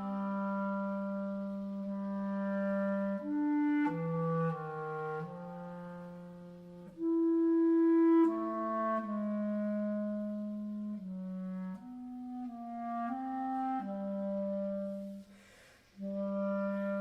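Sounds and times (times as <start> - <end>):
solo wind instrument melody: 0.0 - 17.0.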